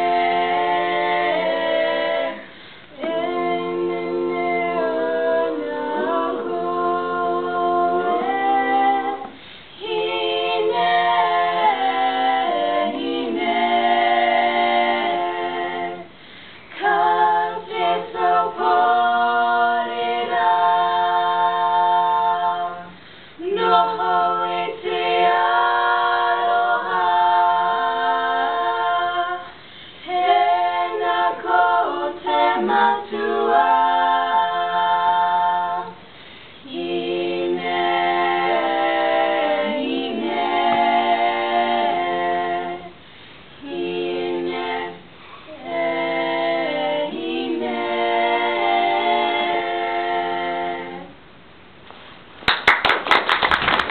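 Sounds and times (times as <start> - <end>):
women singing a cappella harmony: 0.0 - 51.3.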